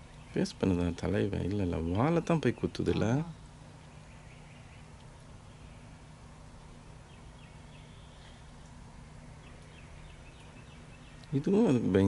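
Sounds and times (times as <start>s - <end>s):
faint bird chirps: 0.0s - 12.0s
low outdoor hum: 0.0s - 12.0s.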